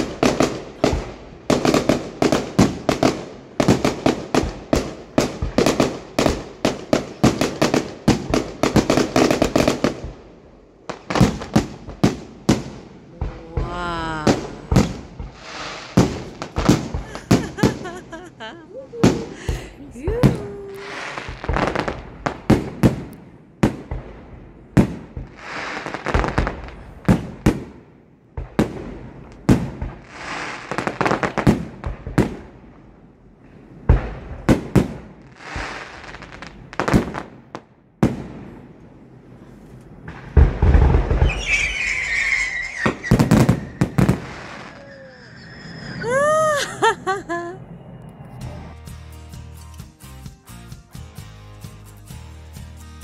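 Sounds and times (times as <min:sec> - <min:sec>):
fireworks bangs: 0:00.0 - 0:47.7
fireworks crackling: 0:00.0 - 0:52.7.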